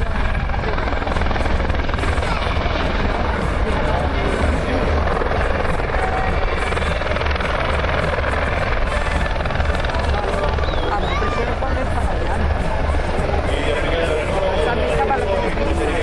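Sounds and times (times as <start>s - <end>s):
helicopter rotor beat: 0.0s - 16.0s
turbine engine whine: 0.0s - 16.0s.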